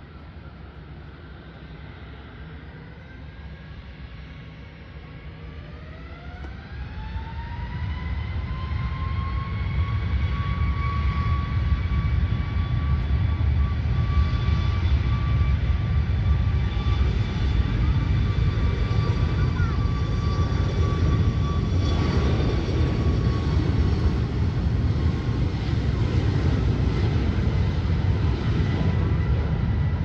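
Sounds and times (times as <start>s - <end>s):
jet engine rumble: 0.0s - 30.0s
jet engine whine rising: 0.0s - 30.0s.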